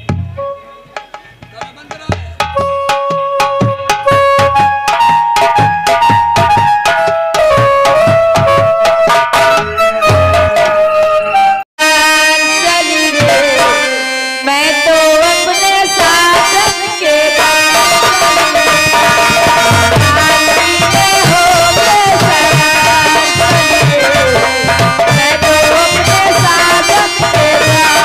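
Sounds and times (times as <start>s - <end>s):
keyboard melody: 0.0s - 28.0s.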